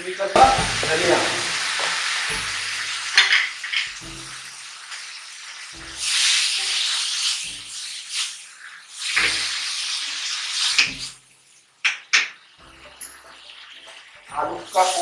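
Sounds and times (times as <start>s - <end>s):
potatoes sizzling in a wok: 0.0s - 15.0s.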